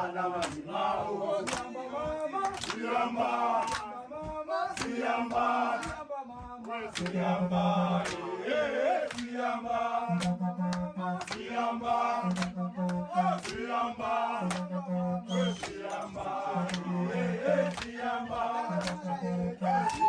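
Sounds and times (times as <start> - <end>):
group chanting a song: 0.0 - 20.0
sharp percussive beats: 0.0 - 20.0.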